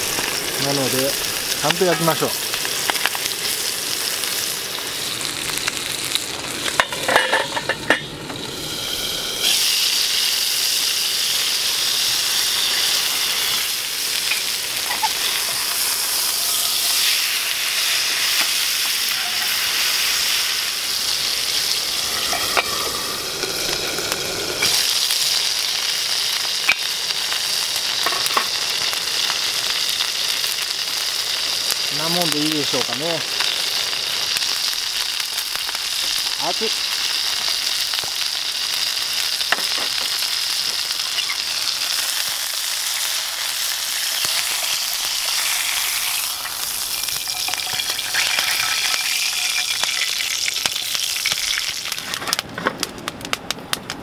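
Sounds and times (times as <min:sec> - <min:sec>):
chicken sizzling in frying pan: 0:00.0 - 0:52.4.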